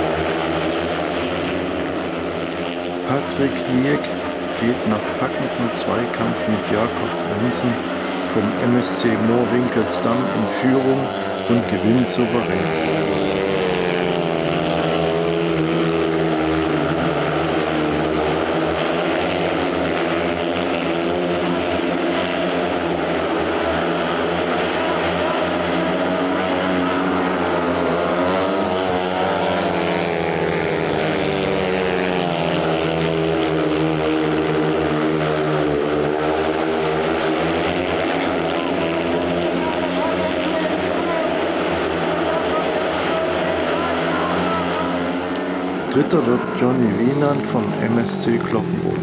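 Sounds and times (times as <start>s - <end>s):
motorcycles racing at full throttle: 0.0s - 49.0s.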